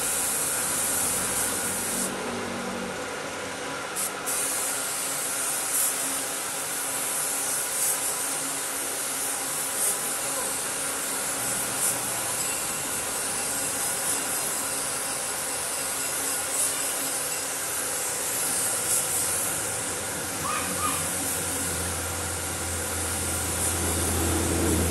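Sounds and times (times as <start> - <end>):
spray gun air hiss: 0.0 - 2.2, 3.9 - 24.9.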